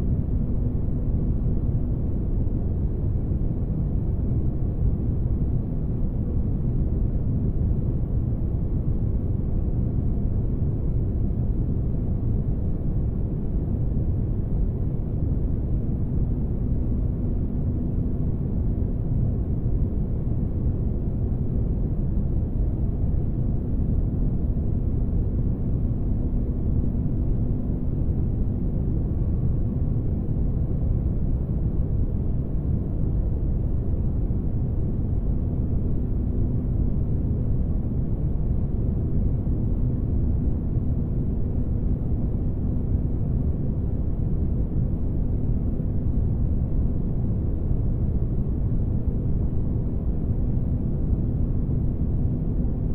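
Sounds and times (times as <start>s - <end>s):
faint hum: 0.0s - 52.9s.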